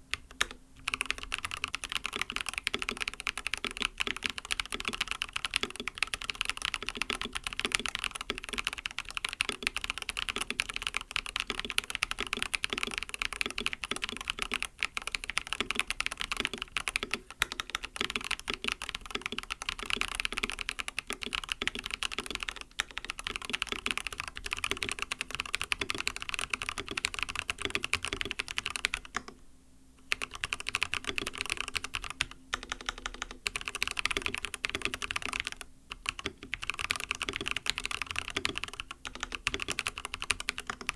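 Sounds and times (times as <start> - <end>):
muted mechanical keyboard typing: 0.0 - 29.4, 30.1 - 40.9.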